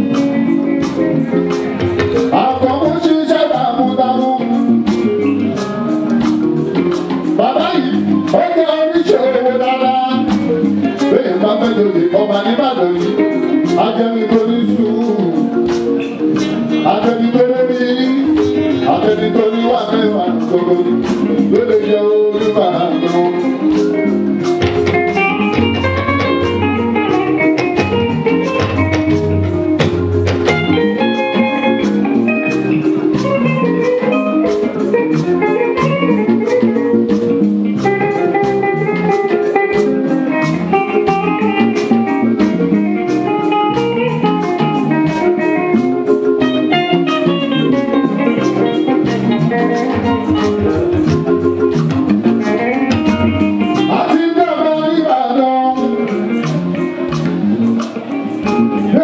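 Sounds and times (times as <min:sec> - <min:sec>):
live band playing instrumental: 0:00.0 - 0:59.0
percussion strikes: 0:00.0 - 0:59.0.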